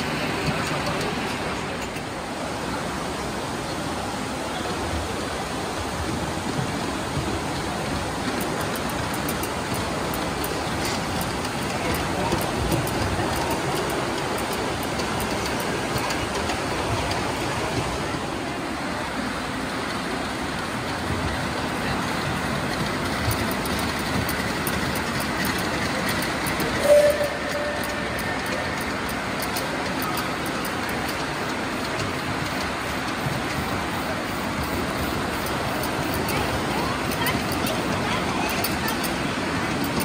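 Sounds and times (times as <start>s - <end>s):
crowd noise: 0.0s - 40.0s
model trains rolling on track: 0.0s - 40.0s.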